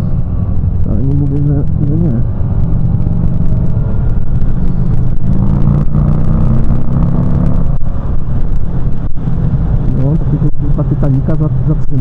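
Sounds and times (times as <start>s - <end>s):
motorcycle engine cruising: 0.0s - 12.0s
road noise: 0.0s - 12.0s
wind noise: 0.0s - 12.0s.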